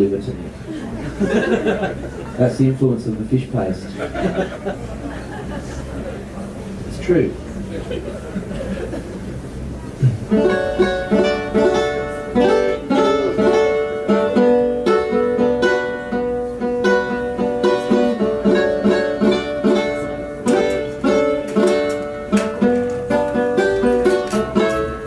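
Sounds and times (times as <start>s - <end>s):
plucked string instrument: 0.0s - 25.0s.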